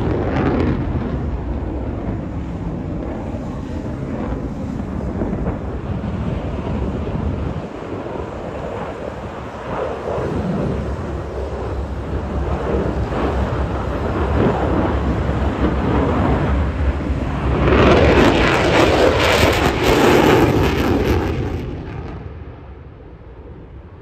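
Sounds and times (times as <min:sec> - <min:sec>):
jet engine with afterburner: 0:00.0 - 0:24.0.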